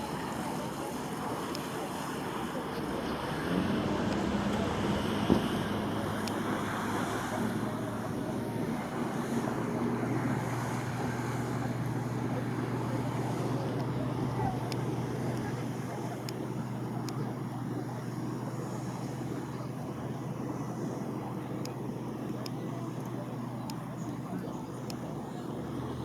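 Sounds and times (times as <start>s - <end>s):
motorboat engine humming: 0.0s - 26.0s.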